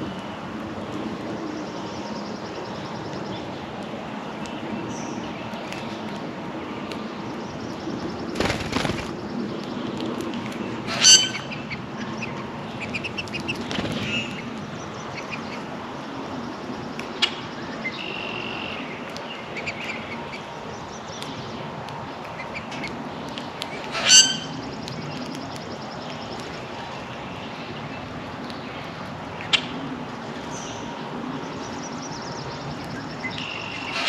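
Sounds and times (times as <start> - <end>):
songbirds chirping: 0.1 - 34.0.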